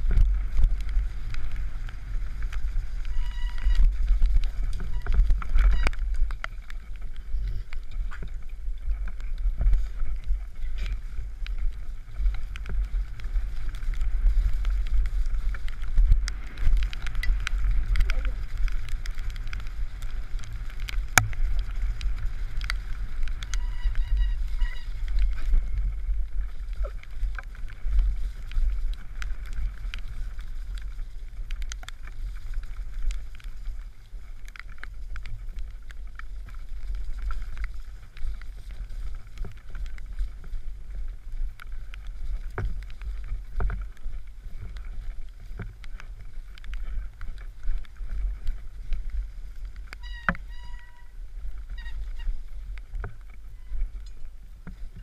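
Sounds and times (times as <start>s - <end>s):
bike rattling over bumps: 0.0s - 55.0s
wind rumbling on microphone: 0.0s - 55.0s.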